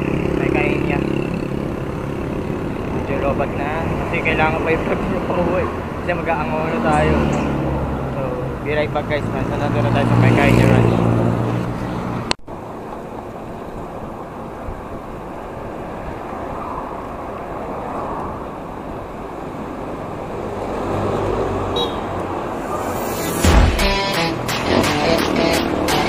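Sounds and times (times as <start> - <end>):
motorcycles passing: 0.0 - 12.3, 15.2 - 26.0
road traffic passing: 0.0 - 26.0.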